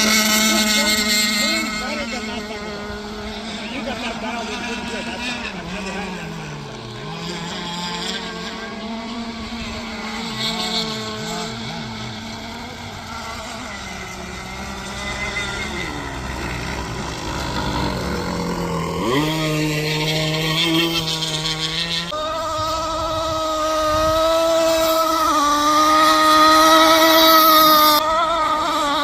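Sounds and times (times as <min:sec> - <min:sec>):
model boat motors on water: 0:00.0 - 0:29.0.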